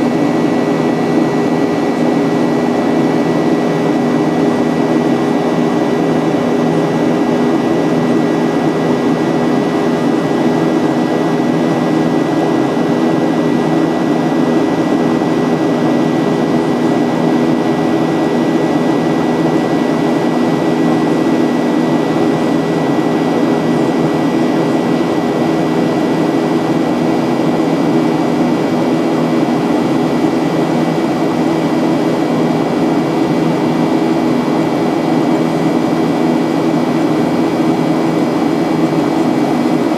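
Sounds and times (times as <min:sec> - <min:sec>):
jet engine and airflow drone: 0:00.0 - 0:39.9.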